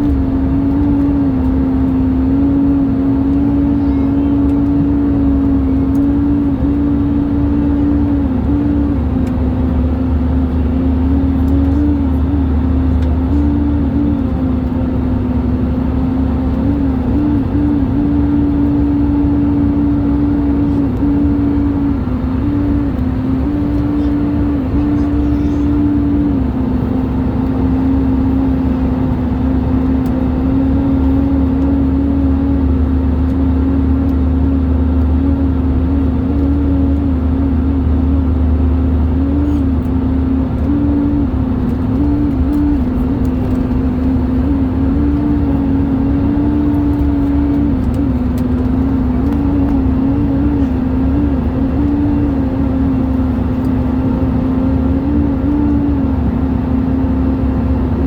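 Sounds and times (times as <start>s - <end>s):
steady wavering cabin hum: 0.0s - 58.0s.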